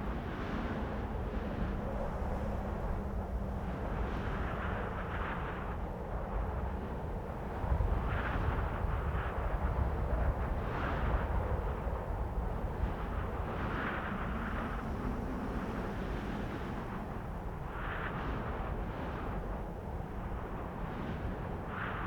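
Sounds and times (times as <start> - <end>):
wind blowing with deep rumble: 0.0 - 22.0.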